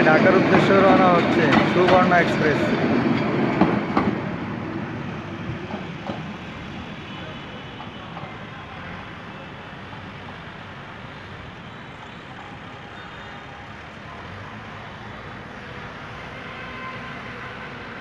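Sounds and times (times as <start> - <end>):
passenger train rumbling: 0.0 - 18.0
traffic noise: 0.0 - 18.0.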